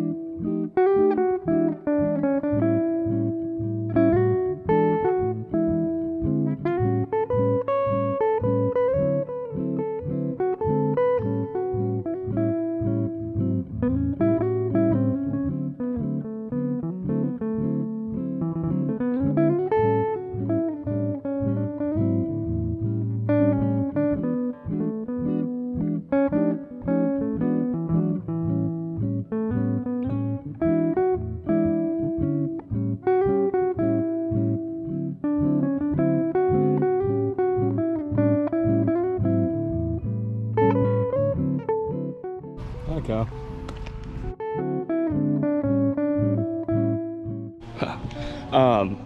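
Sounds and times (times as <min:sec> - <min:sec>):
plucked guitar music: 0:00.0 - 0:49.0.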